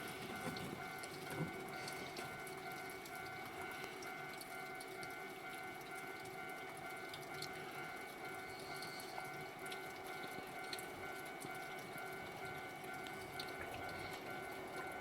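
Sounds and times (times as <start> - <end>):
faint ticks: 0.3 - 15.0.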